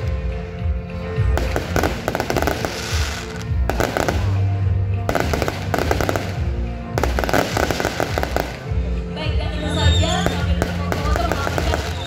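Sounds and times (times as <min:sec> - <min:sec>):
music from sound system: 0:00.0 - 0:12.0
fireworks crackling and banging: 0:01.0 - 0:09.1, 0:09.8 - 0:12.0.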